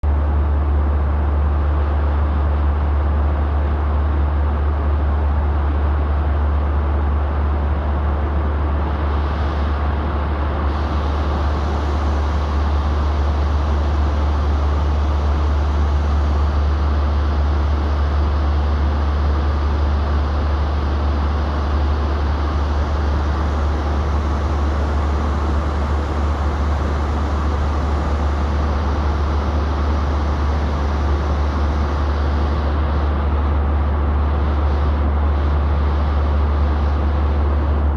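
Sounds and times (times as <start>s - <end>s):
airliner cabin engine drone: 0.1s - 37.9s.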